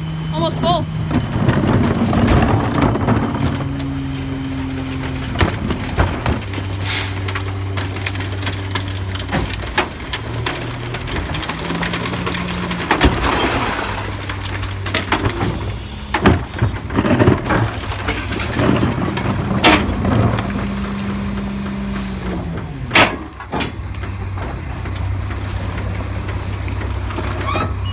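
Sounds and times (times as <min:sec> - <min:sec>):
garbage truck engine running: 0:00.0 - 0:27.9
bangs and clanks: 0:01.0 - 0:27.8.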